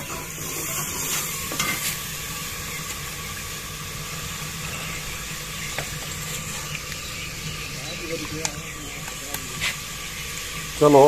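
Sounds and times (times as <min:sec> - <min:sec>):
chicken sizzling in a pot: 0:00.0 - 0:11.0
fire crackles: 0:00.0 - 0:11.0.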